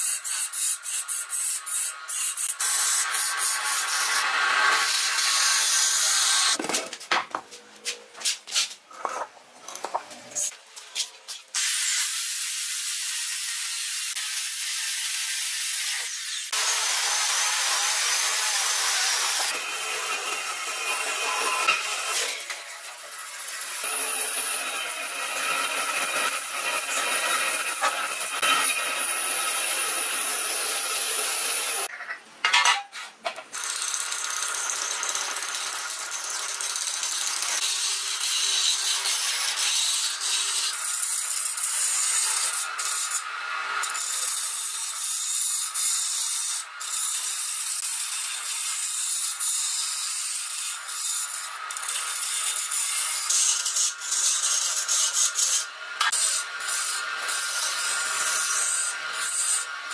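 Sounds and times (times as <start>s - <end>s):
band saw cutting wood: 0.0s - 6.6s, 11.5s - 31.9s, 33.5s - 59.9s.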